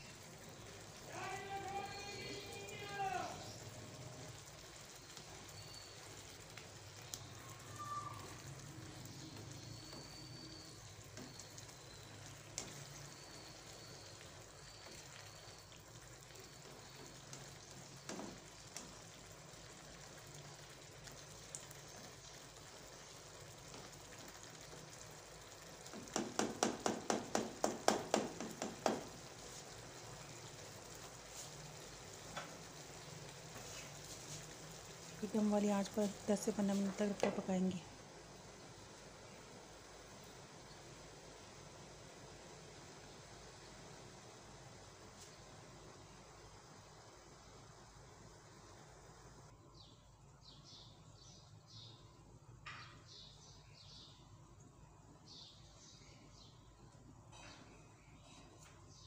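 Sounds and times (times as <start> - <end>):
food sizzling in a frying pan: 0.0 - 49.5.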